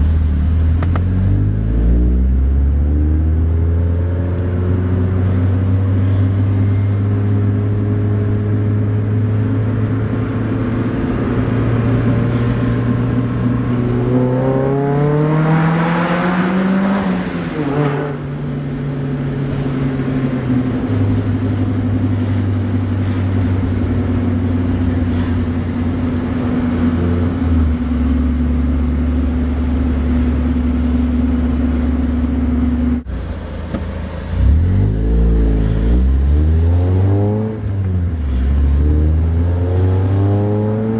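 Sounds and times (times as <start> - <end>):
car exhaust drone while driving: 0.0 - 40.9.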